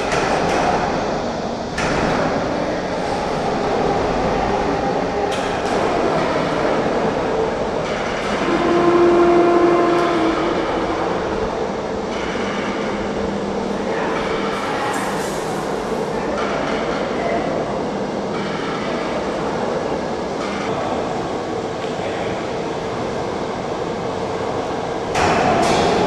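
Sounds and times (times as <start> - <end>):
heavy factory machinery rumbling: 0.0 - 26.0.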